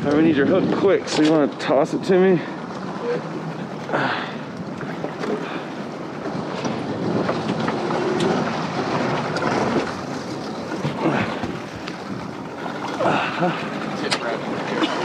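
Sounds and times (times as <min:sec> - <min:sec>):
small boat rumbling: 0:00.0 - 0:15.0.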